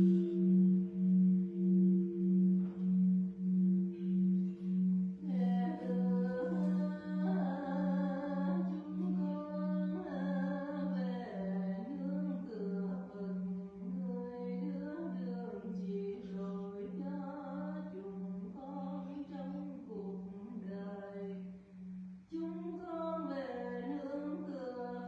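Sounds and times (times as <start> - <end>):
person chanting: 0.0 - 25.0
temple bell humming: 0.0 - 25.0.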